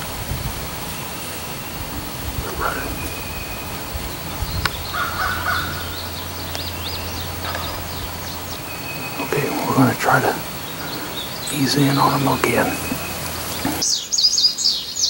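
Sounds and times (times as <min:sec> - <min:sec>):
wild birds calling: 0:00.0 - 0:15.0.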